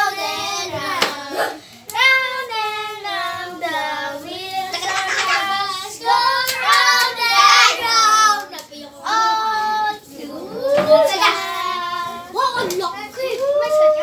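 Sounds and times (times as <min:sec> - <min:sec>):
child singing: 0:00.0 - 0:14.0.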